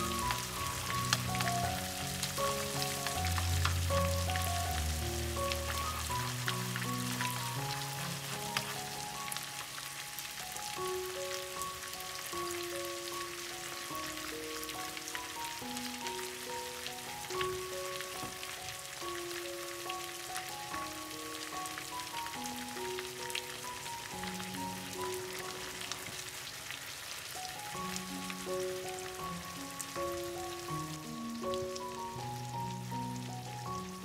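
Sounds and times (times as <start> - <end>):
chicken sizzling in frying pan: 0.0 - 34.0
soft slow background music: 0.0 - 34.0.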